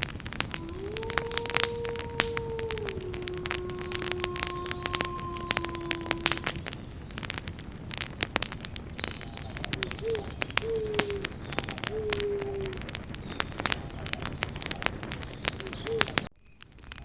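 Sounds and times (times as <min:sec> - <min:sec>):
campfire crackling: 0:00.0 - 0:17.0
low falling whistling tones: 0:00.6 - 0:06.9, 0:08.9 - 0:16.3.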